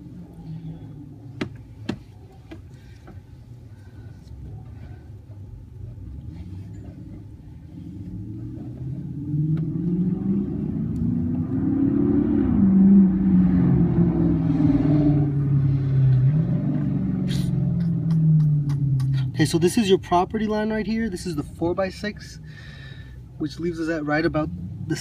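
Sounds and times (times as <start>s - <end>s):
engine running with low rumble: 0.0s - 25.0s.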